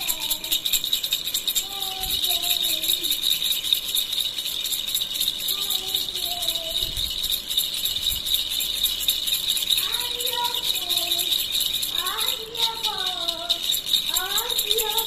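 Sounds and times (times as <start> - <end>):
plastic baby rattle shaken: 0.0 - 15.0.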